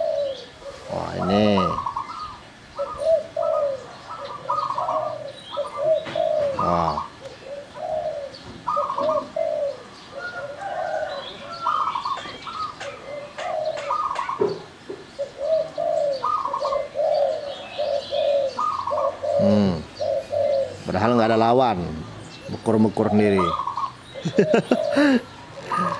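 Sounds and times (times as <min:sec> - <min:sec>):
higher dove coo: 0:00.0 - 0:21.4, 0:22.4 - 0:25.9
doves cooing: 0:00.0 - 0:25.9
small birds chirping: 0:00.0 - 0:25.9.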